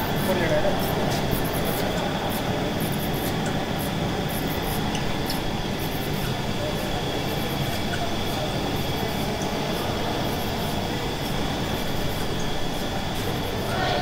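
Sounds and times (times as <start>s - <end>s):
high steady whine: 0.0s - 14.0s
printing press rumbling: 0.0s - 14.0s.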